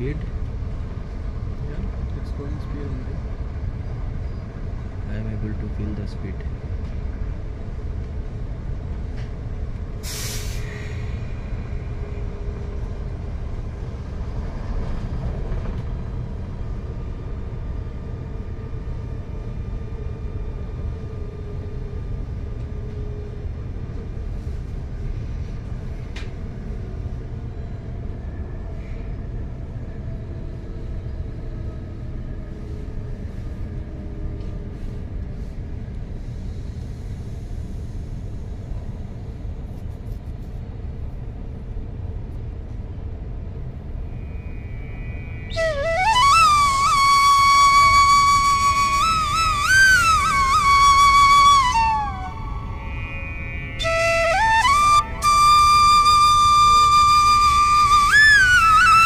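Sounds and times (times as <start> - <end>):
train rumbling at speed: 0.0 - 59.0.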